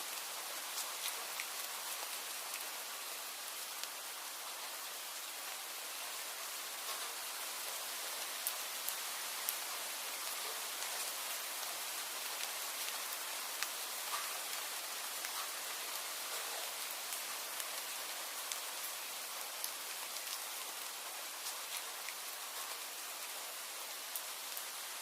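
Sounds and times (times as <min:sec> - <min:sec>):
steady rainfall hiss: 0:00.0 - 0:25.0.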